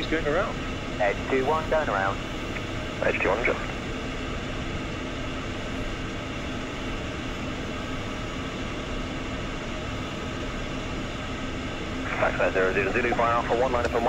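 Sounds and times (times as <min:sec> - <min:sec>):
faint steady hum: 0:00.0 - 0:14.0
jet engines idling: 0:00.0 - 0:14.0.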